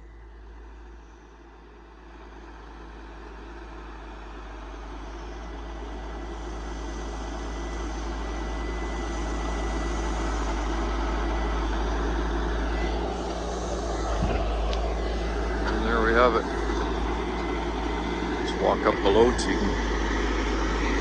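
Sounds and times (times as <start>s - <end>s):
faint high whine: 0.0s - 21.0s
truck diesel engine running: 0.0s - 21.0s.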